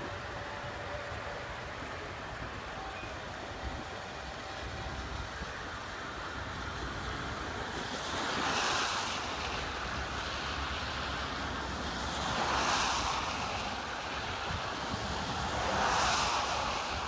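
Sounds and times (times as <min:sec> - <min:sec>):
train cars rolling on rails: 0:00.0 - 0:17.0.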